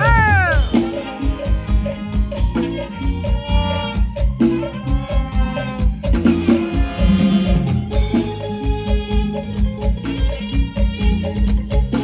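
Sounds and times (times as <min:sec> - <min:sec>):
fast drum beat: 0:00.0 - 0:12.0.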